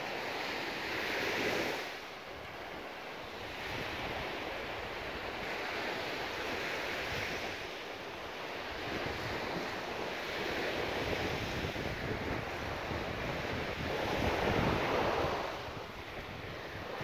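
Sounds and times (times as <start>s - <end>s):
sea waves washing onto beach: 0.0s - 17.0s
wind rumbling on microphone: 0.5s - 17.0s.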